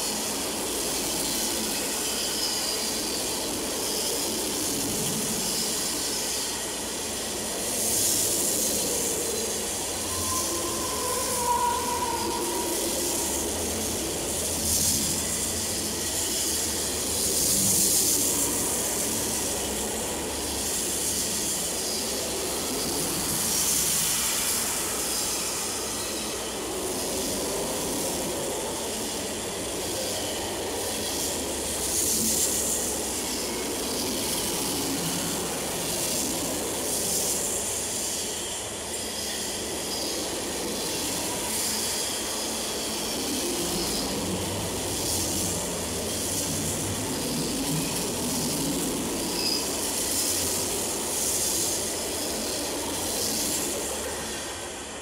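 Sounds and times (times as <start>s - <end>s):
freight train wheels on rail: 0.0s - 55.0s.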